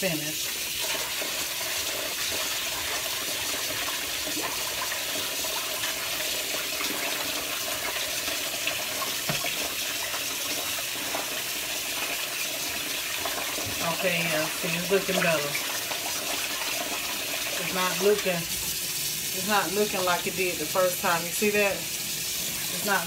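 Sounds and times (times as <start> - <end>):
faucet running into bowl: 0.0 - 23.0.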